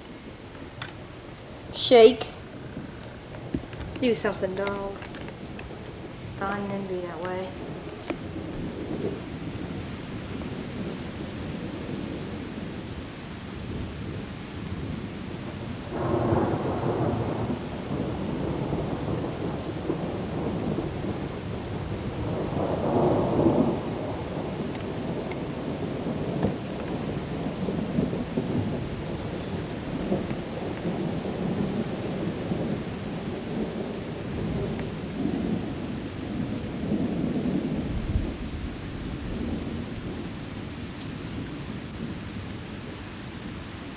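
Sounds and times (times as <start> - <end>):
steady rain: 0.0 - 43.9
thunder rumbling: 0.0 - 43.9.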